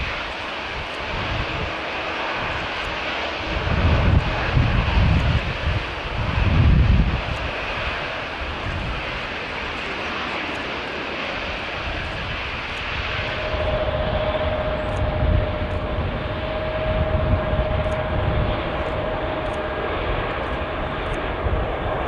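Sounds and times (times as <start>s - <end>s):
jet engines roaring at take-off: 0.0s - 22.0s.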